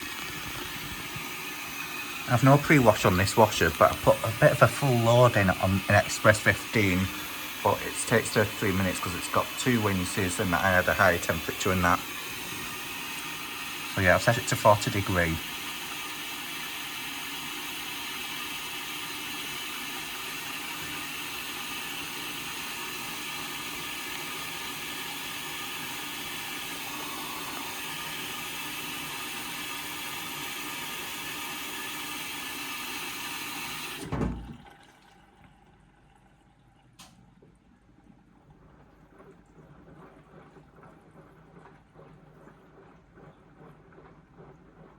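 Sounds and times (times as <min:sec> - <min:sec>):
water hissing into washing machine: 0:00.0 - 0:37.4, 0:38.0 - 0:44.9.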